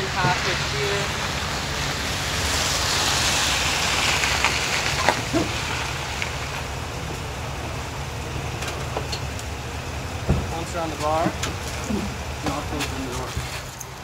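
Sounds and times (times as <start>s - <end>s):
outdoor noise: 0.0s - 14.0s.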